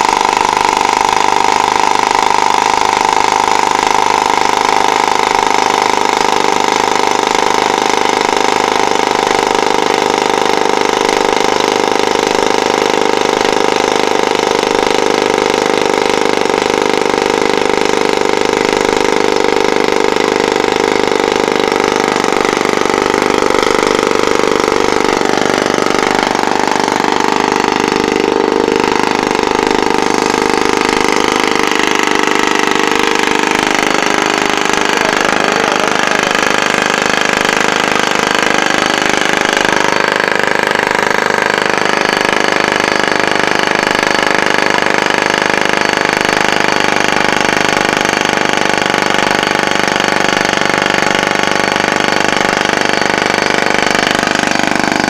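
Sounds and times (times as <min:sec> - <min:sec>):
rock drill rattling: 0:00.0 - 0:55.0
steady machine hum: 0:00.0 - 0:55.0.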